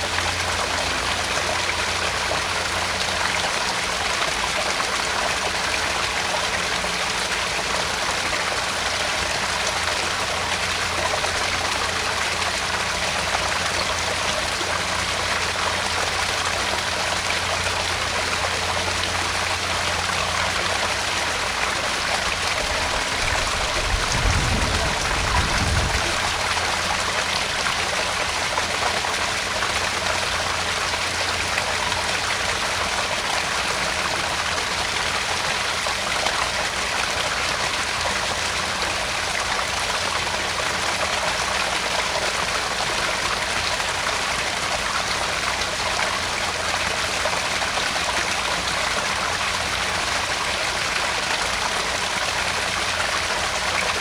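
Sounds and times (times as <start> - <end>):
water splashing into pond: 0.0 - 54.0.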